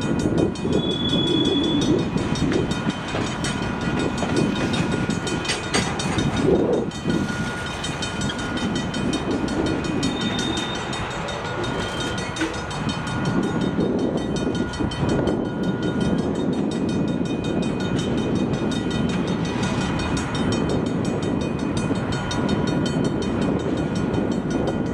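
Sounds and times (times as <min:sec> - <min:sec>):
freight train rolling on rails: 0:00.0 - 0:24.9.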